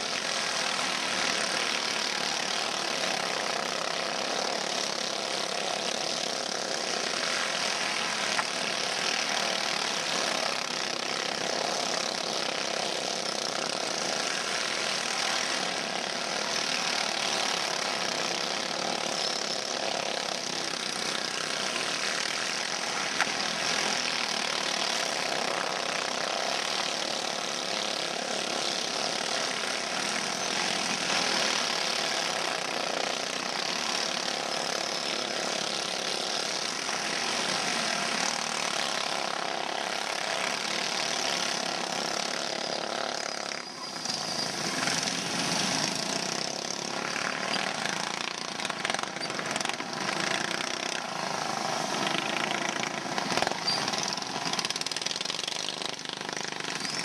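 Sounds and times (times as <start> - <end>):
go-kart engines buzzing: 0.0 - 57.0.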